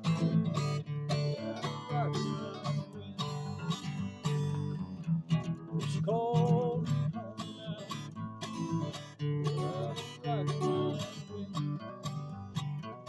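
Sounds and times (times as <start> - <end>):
held melody line: 0.0 - 12.9
strummed acoustic guitar: 0.0 - 13.0.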